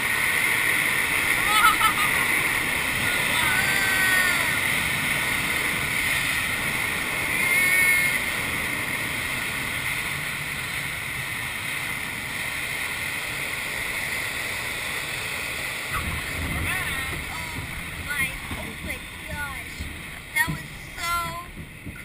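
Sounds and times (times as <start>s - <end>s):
rush of air over glider: 0.0s - 22.0s.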